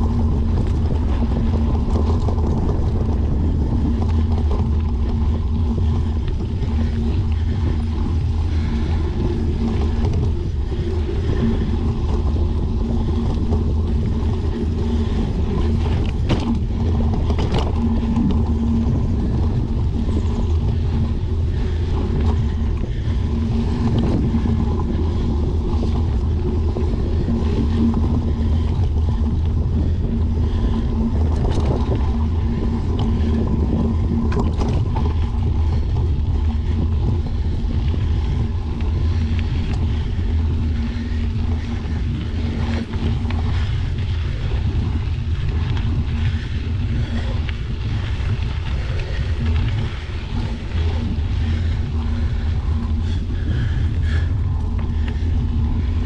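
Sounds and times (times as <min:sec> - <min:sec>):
bicycle tyres rumbling on dirt: 0:00.0 - 0:56.0
steady hum: 0:00.0 - 0:56.0
wind buffeting microphone: 0:00.0 - 0:56.0.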